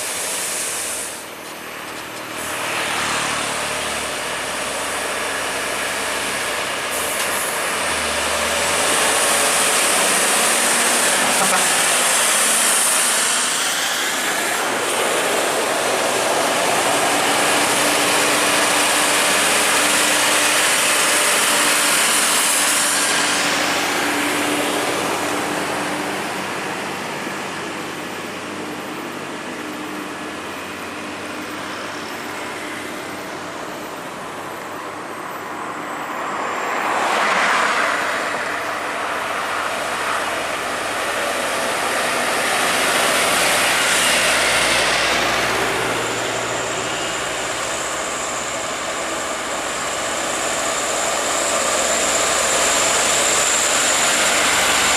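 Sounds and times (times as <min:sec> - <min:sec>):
diesel truck engines droning: 0:00.0 - 0:54.9.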